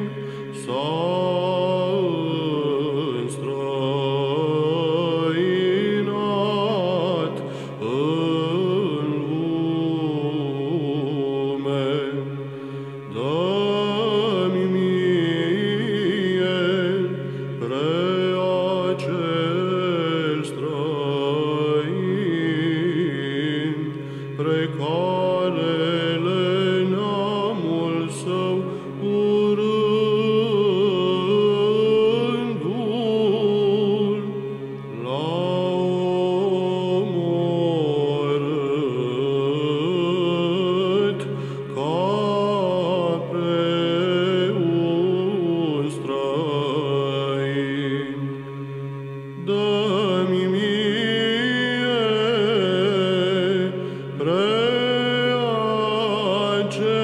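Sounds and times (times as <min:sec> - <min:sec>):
held vocal drone: 0:00.0 - 0:57.0
melismatic chant singing: 0:00.0 - 0:57.0.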